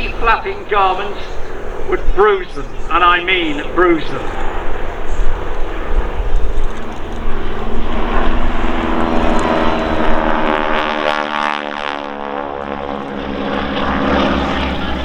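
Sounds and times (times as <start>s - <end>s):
propeller biplanes flying past: 0.0s - 15.0s.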